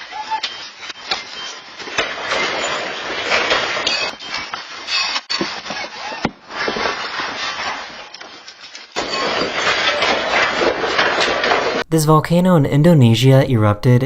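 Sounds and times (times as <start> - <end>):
objects clattering and banging: 0.0 - 11.8.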